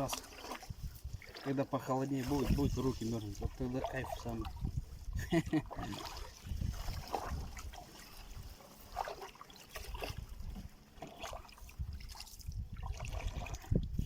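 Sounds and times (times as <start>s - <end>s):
boat splashing in shallow water: 0.0s - 14.0s.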